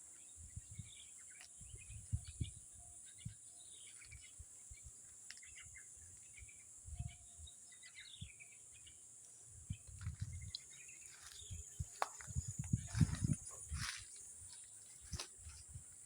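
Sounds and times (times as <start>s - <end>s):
bird chirps: 0.0s - 15.2s
insect drone: 0.0s - 16.0s.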